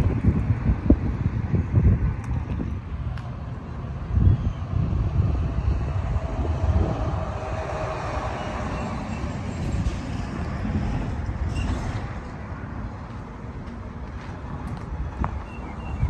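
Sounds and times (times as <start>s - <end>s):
traffic passing: 0.0s - 16.0s
wind rumbling on microphone: 0.0s - 16.0s.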